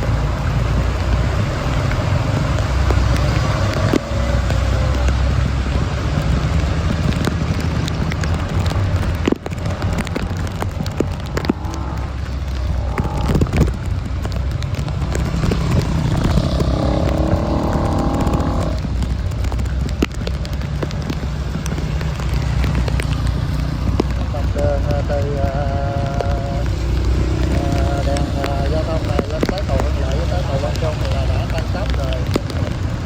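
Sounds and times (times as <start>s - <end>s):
vehicle engines rumbling: 0.0s - 33.0s.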